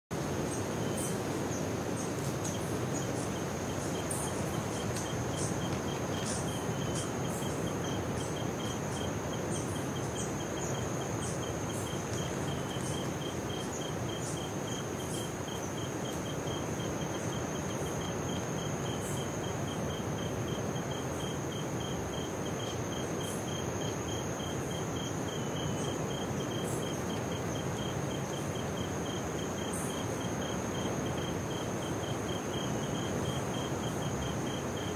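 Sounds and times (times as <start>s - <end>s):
pulsing cricket-like chirp: 0.2s - 34.9s
high-pitched insect whine: 0.3s - 34.9s.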